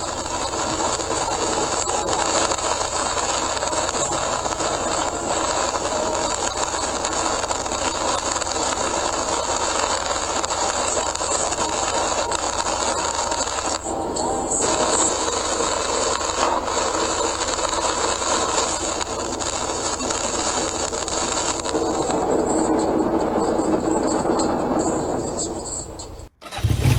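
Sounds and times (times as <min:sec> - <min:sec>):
rain on car: 0:00.0 - 0:26.2
tyres hissing on wet pavement: 0:00.0 - 0:26.7.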